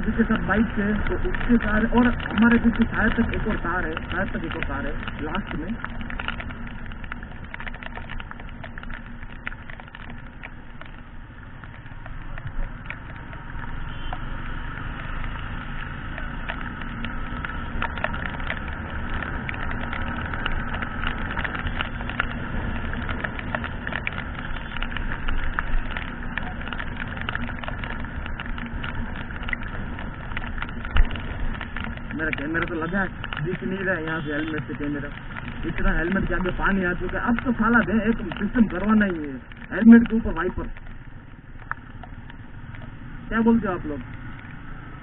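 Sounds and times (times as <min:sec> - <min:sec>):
motorcycle engine rumble: 0:00.0 - 0:45.0
raindrops ticking on helmet: 0:00.0 - 0:45.0.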